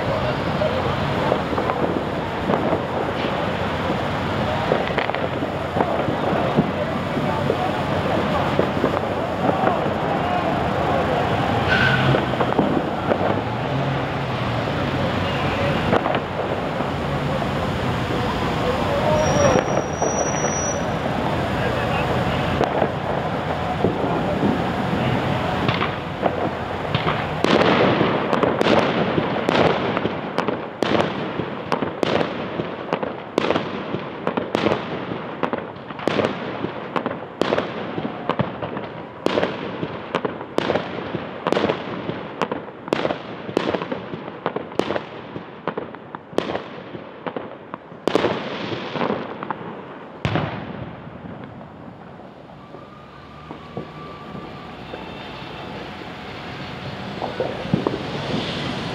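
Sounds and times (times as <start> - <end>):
fireworks bursts with echo: 0.0 - 58.9.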